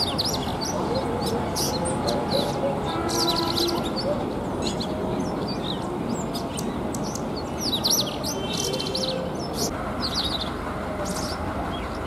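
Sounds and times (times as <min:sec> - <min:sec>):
bird singing high chirps: 0:00.0 - 0:12.0.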